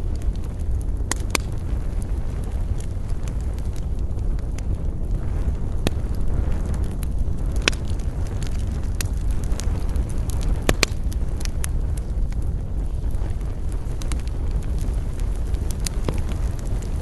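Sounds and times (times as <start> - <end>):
fire crackles and pops: 0.0 - 17.0
wood fire rumble: 0.0 - 17.0.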